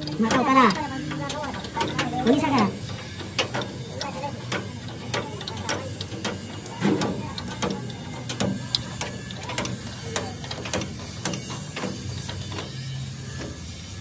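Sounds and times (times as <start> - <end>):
metallic clicks and knocks: 0.0 - 13.6
steady low hum: 0.0 - 14.0.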